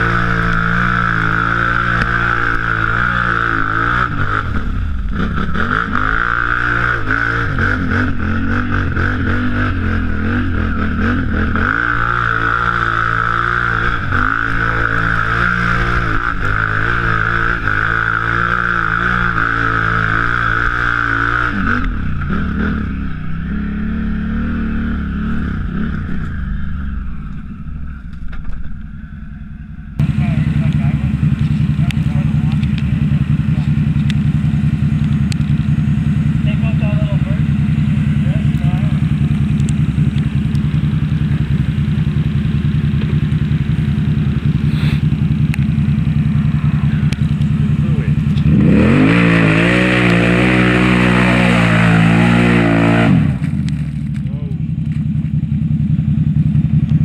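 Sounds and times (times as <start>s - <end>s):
atv engine revving: 0.0s - 57.0s
high whine: 0.0s - 57.0s.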